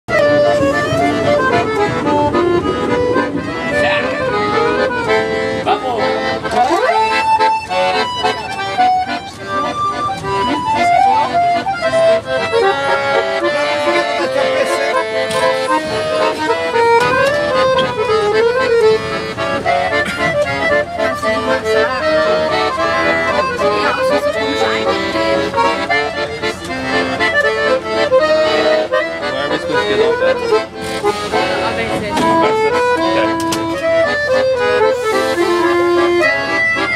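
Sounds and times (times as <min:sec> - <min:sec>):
piano accordion melody: 0:00.1 - 0:36.9.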